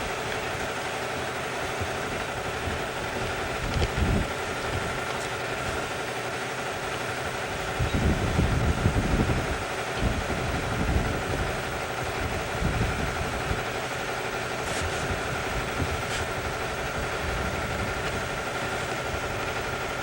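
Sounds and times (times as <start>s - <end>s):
engine idling with low rumbling: 0.0s - 20.0s.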